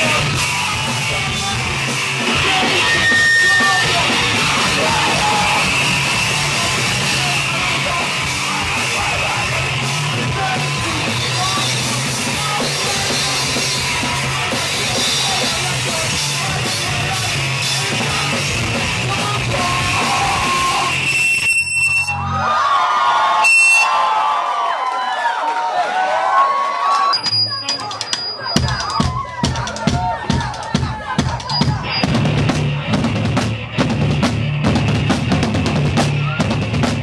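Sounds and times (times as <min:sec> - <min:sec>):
punk rock band playing: 0:00.0 - 0:22.5, 0:27.6 - 0:37.0.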